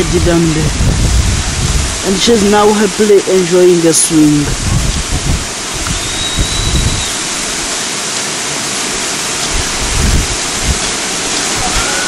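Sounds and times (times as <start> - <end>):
wind on the microphone: 0.0 - 3.4, 4.1 - 7.8, 8.9 - 12.0.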